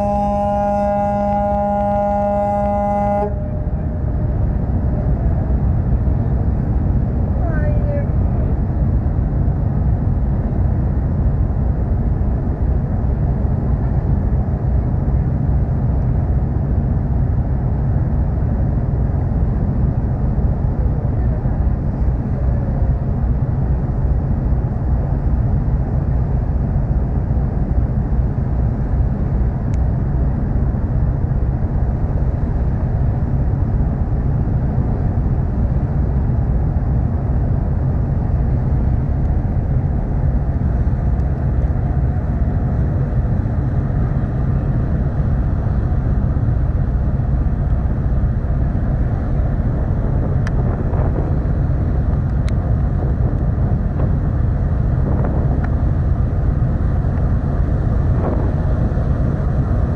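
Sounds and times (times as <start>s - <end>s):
ship engines droning: 0.0s - 59.9s.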